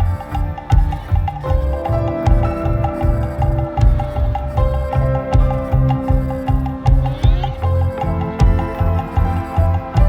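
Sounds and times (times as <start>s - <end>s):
music with steady low beat: 0.0s - 10.0s.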